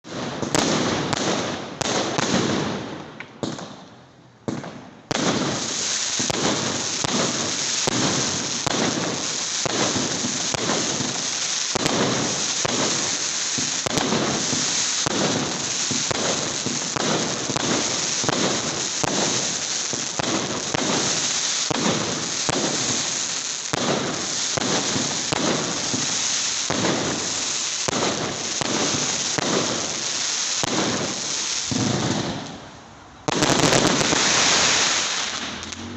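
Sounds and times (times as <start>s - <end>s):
fireworks banging and crackling: 0.0s - 35.9s.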